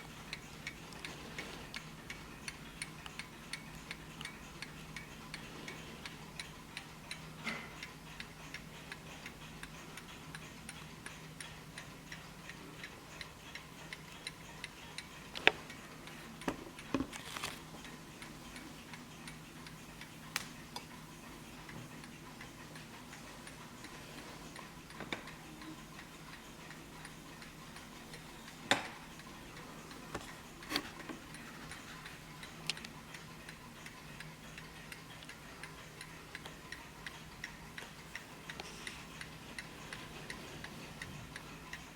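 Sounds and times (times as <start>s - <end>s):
mantel clock ticking: 0.0s - 41.9s.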